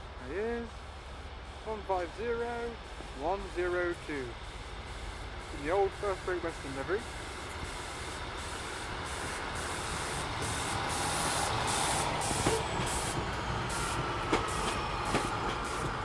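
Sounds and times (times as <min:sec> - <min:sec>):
diesel train rumble and hiss: 0:00.0 - 0:16.0.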